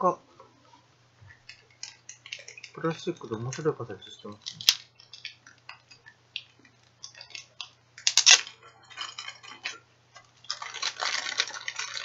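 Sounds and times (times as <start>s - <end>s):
plastic bag crinkling: 1.5s - 12.0s.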